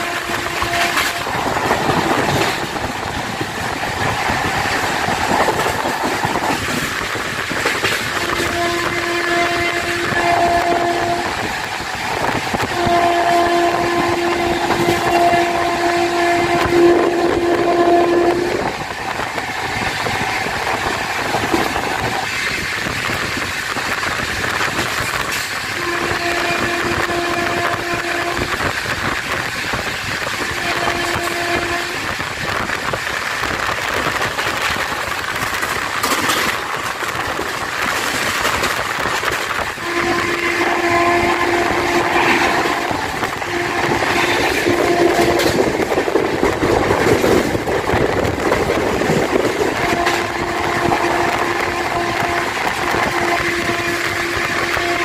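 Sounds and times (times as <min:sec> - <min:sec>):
clatter over rail joints: 0:00.0 - 0:10.8, 0:19.0 - 0:55.0
locomotive horn blasts: 0:00.0 - 0:19.2, 0:23.8 - 0:29.6, 0:30.2 - 0:32.8, 0:37.9 - 0:47.8, 0:48.5 - 0:55.0
wind and train wheels rushing: 0:00.0 - 0:55.0.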